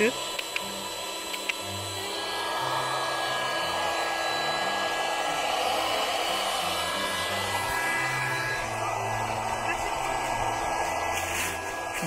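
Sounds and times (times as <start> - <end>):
electric air pump running: 0.0 - 12.0.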